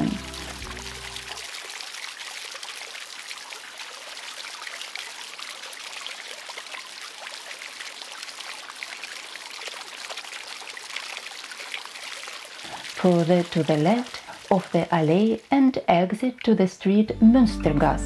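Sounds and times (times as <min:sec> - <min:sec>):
fountain water splashing: 0:00.0 - 0:16.1.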